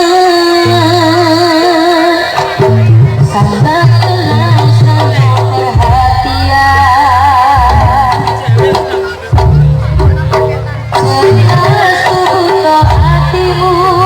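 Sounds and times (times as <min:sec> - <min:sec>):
steady bass: 0:02.5 - 0:14.0.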